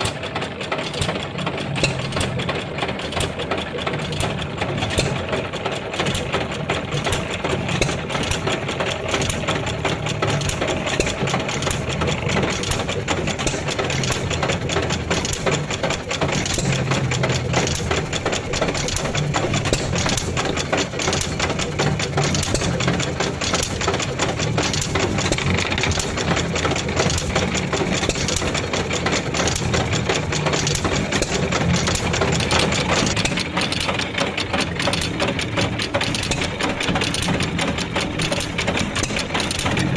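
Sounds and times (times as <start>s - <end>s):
engine and washer mechanical clatter: 0.0s - 39.9s.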